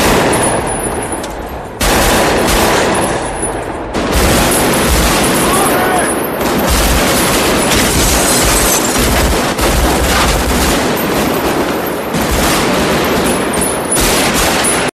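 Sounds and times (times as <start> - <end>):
automatic rifle fire: 0.0 - 14.9.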